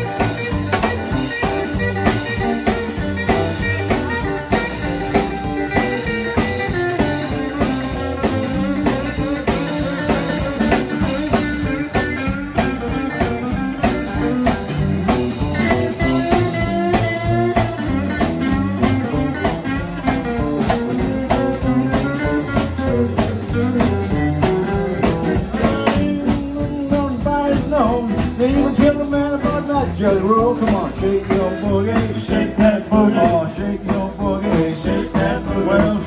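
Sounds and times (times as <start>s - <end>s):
drum kit beat: 0.0s - 36.0s
electric guitars: 0.0s - 36.0s.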